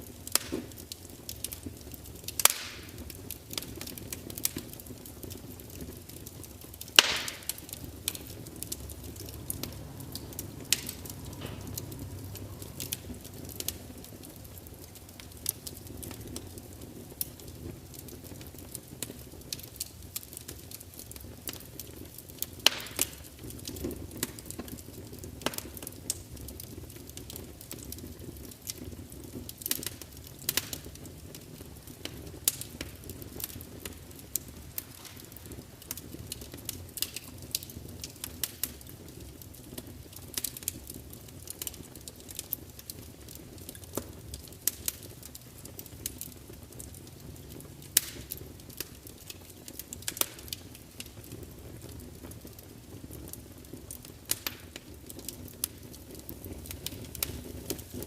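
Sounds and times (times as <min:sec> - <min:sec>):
fire rumbling: 0:00.0 - 0:58.0
logs crackling and popping: 0:00.0 - 0:58.0.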